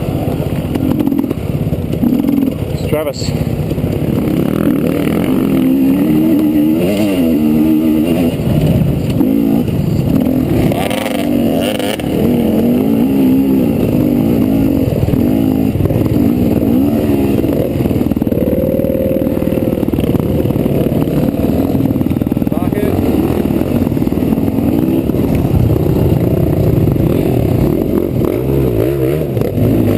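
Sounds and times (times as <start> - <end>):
two-stroke engine revving: 0.0 - 29.9.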